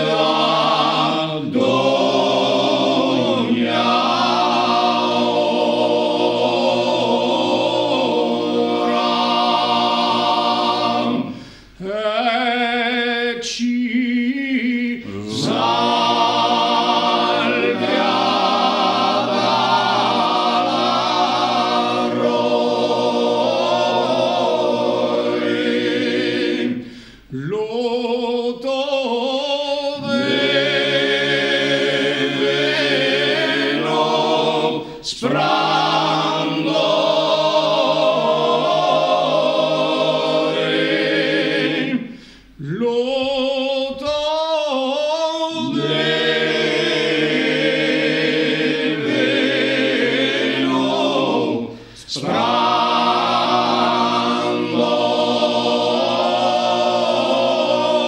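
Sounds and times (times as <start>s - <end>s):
male choir singing a cappella: 0.0s - 58.0s.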